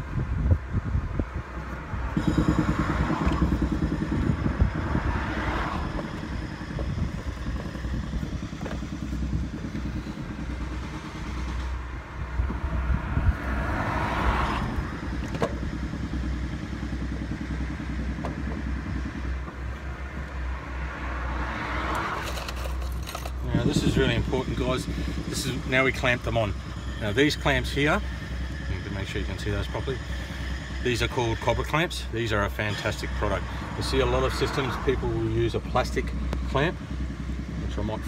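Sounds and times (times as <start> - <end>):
motor engine running: 1.2 - 38.0.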